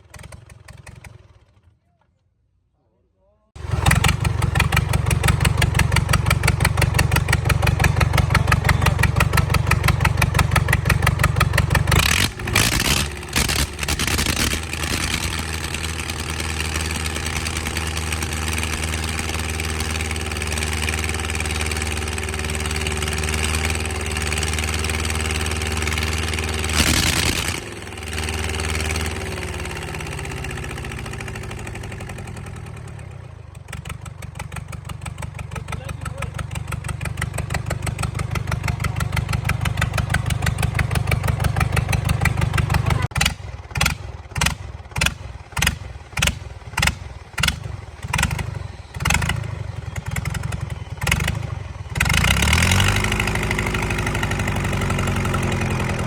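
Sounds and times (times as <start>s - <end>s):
tractor engine running: 0.0s - 1.8s, 3.6s - 56.0s.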